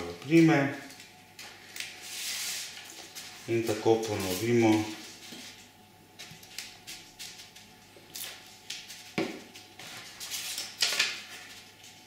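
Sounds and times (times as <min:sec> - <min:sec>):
paper rustling and crinkling: 0:00.2 - 0:05.6, 0:06.4 - 0:12.0.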